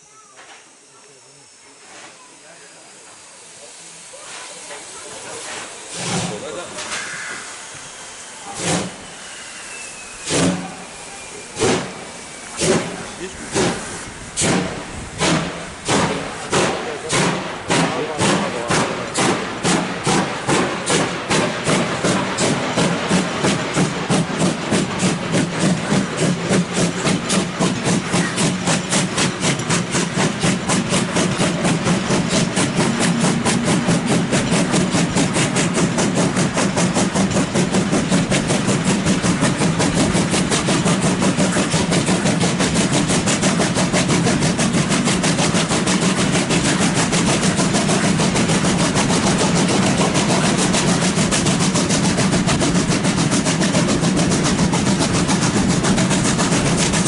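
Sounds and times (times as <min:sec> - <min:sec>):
steam locomotive chuffing: 0:00.0 - 0:57.0
train rumble: 0:00.0 - 0:57.0.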